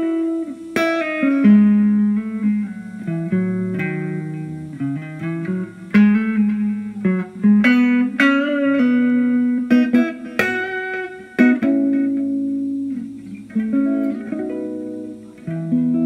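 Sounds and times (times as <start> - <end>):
electric guitar blues lead: 0.0 - 16.0.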